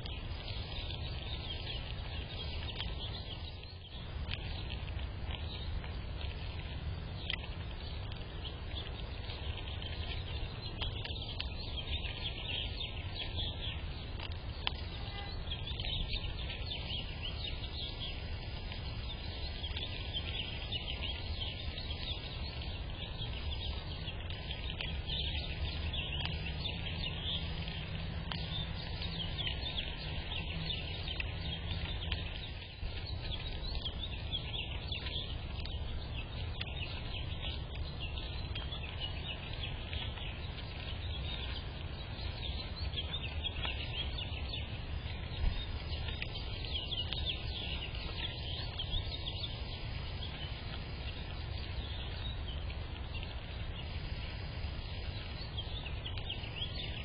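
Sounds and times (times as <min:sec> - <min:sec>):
low background rumble: 0:00.0 - 0:57.0
small birds chirping: 0:00.0 - 0:57.0.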